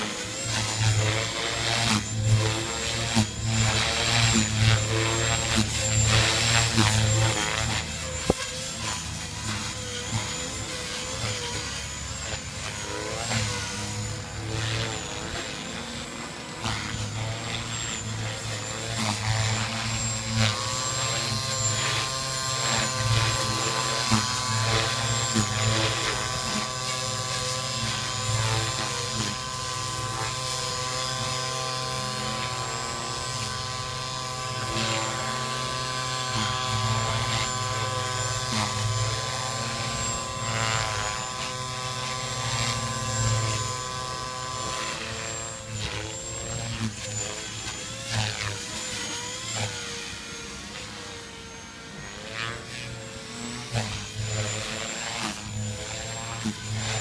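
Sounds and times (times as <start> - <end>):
rc helicopter motor whine: 0.0 - 57.0.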